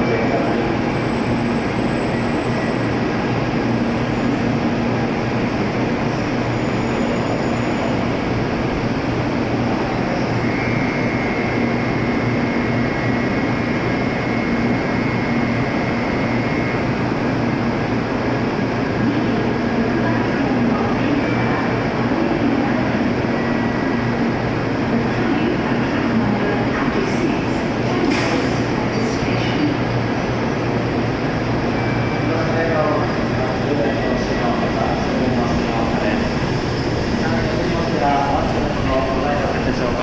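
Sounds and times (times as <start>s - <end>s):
train machinery rumbling: 0.0s - 40.0s.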